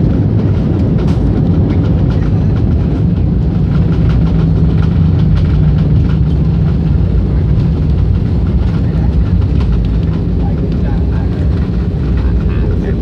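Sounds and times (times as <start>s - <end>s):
airliner engines rumbling: 0.0s - 13.0s
wheels rolling on runway: 0.0s - 13.0s.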